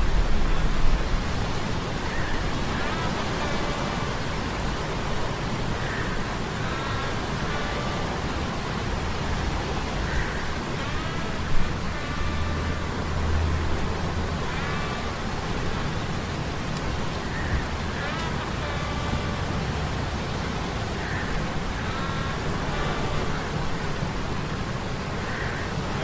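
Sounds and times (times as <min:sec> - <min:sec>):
waves: 0:00.0 - 0:26.0
wind: 0:00.0 - 0:26.0.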